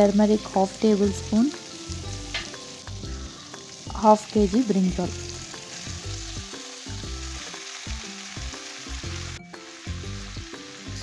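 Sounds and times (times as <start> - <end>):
background music: 0.0 - 11.0
vegetables sizzling in oil: 0.0 - 11.0.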